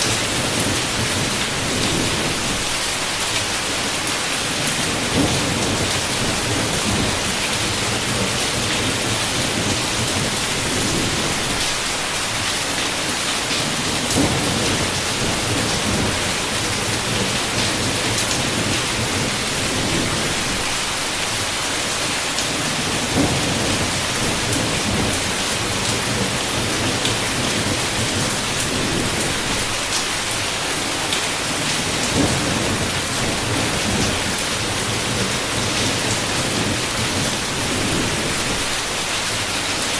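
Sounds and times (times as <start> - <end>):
heavy rain on window: 0.0 - 39.9
thunder rumbling: 4.6 - 12.1, 13.6 - 21.5, 22.5 - 39.5.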